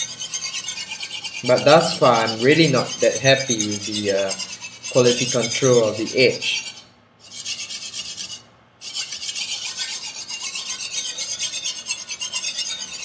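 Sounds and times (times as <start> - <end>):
knife rasping on whetstone: 0.0 - 13.0.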